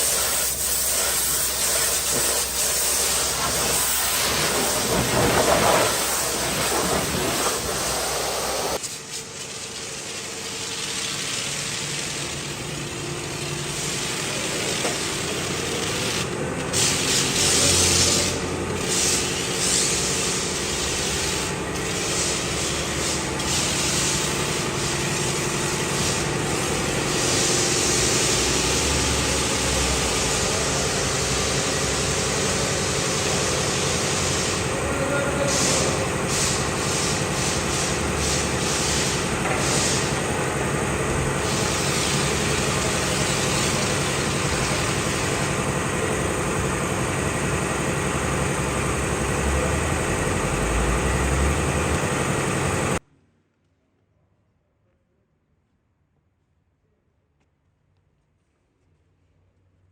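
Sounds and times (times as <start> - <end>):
pressure washer spraying: 0.0 - 53.0.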